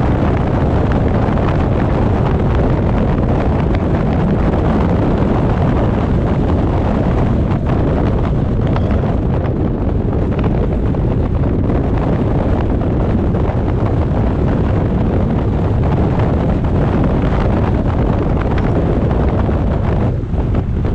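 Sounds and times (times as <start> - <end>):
car driving and road noise: 0.0 - 20.9
wind buffeting microphone: 0.0 - 20.9.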